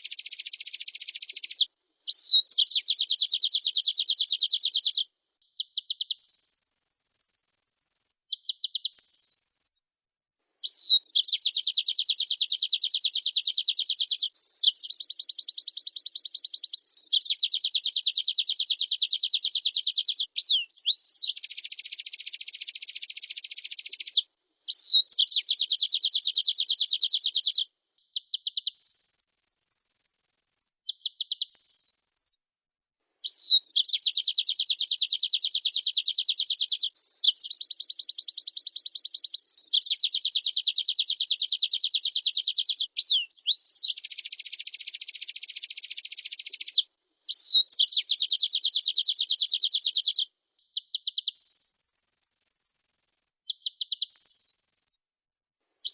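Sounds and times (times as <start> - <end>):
white-eye bird singing trilled song: 0.0 - 5.0, 5.6 - 9.8, 10.6 - 27.6, 28.2 - 32.4, 33.3 - 55.0.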